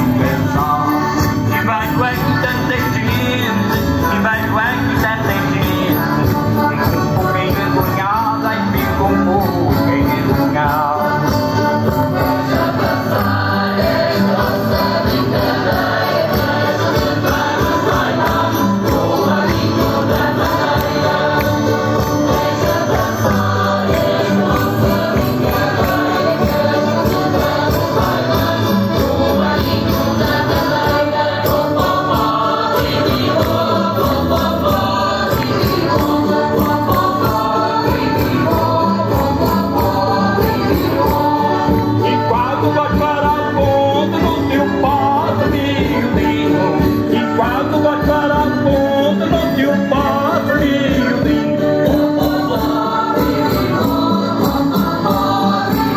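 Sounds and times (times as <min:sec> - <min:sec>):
folk music with group singing: 0:00.0 - 0:55.9.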